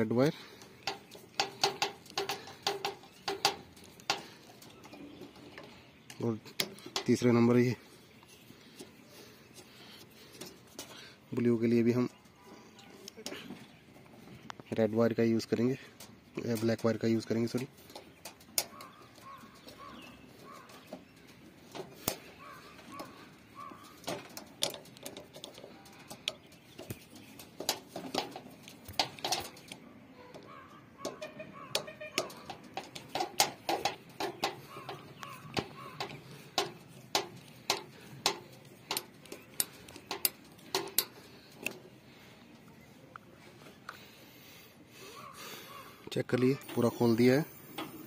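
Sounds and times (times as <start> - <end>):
birds calling faintly: 0.0 - 48.0.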